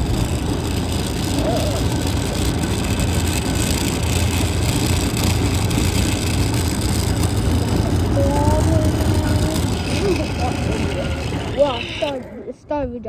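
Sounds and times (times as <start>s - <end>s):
electric motor whirring: 0.0s - 12.5s
wheels rumbling on pavement: 0.0s - 13.0s.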